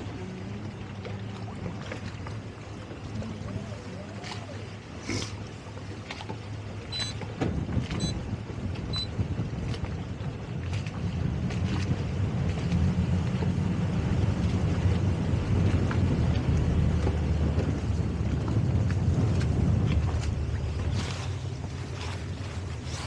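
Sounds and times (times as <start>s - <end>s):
boat engine running: 0.0s - 23.0s
wind buffeting microphone: 0.0s - 23.0s.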